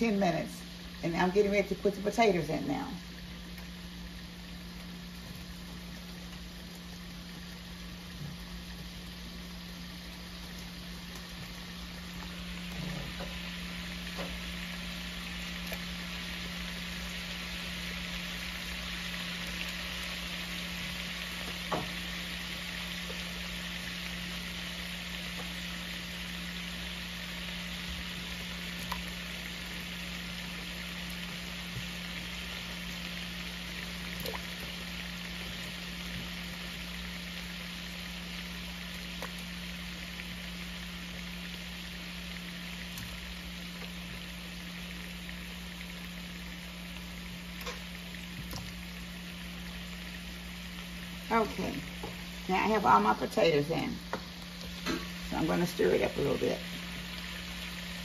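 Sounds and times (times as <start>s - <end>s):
broth bubbling in a stockpot: 0.0s - 58.0s.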